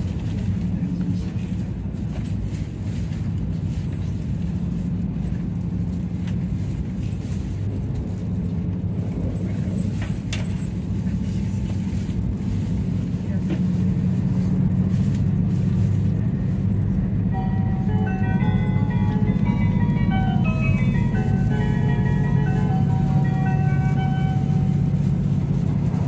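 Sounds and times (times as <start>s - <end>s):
train interior running drone: 0.0s - 26.0s.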